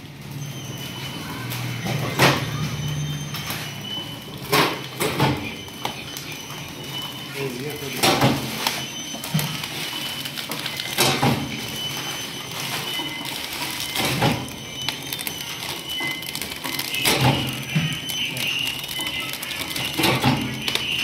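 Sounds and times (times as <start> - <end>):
packing machine whirring: 0.0 - 21.0.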